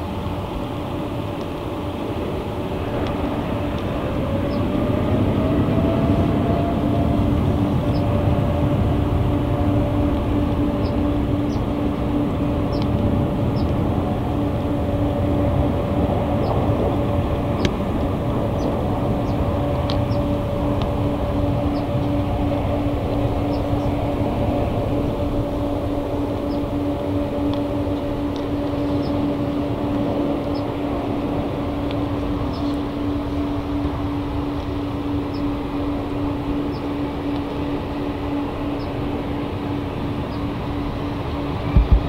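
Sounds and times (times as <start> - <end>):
jet engines running: 0.0 - 42.0.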